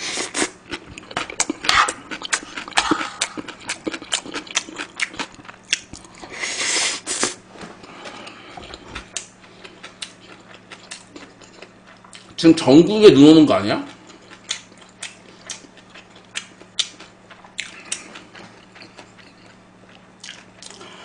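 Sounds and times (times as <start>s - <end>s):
chewing with mouth clicks: 0.3s - 6.2s, 7.8s - 12.4s, 13.9s - 20.9s.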